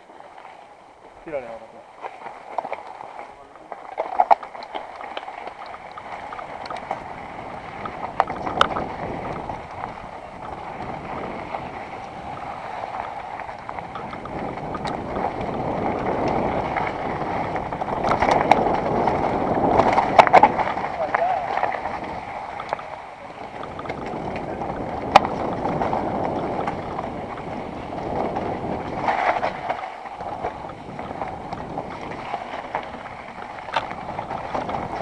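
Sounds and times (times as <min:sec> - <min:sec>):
bike knocking and rattling on rocks: 0:02.0 - 0:35.0
wind rush on microphone: 0:03.3 - 0:35.0.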